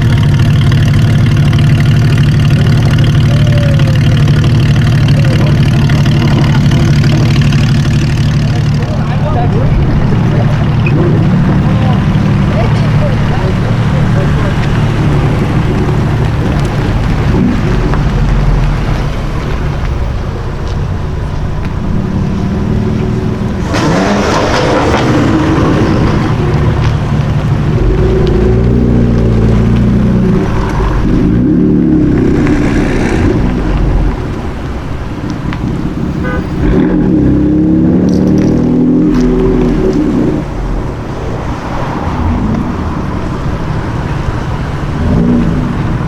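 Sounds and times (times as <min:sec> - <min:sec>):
car engines revving and accelerating: 0:00.0 - 0:46.0
deep exhaust rumble: 0:00.0 - 0:46.0.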